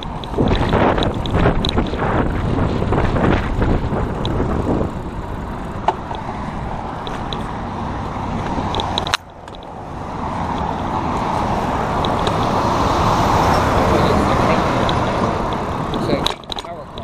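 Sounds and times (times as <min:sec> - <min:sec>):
road traffic passing: 0:00.0 - 0:17.0
wind noise on microphone: 0:00.0 - 0:17.0.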